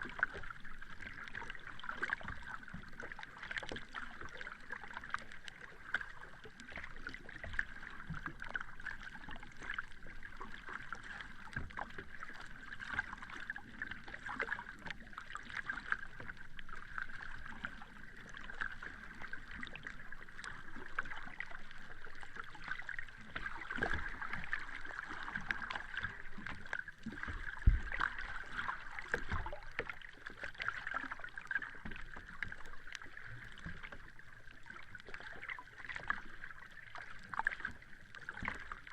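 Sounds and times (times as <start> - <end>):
sea water lapping and splashing: 0.0 - 38.9.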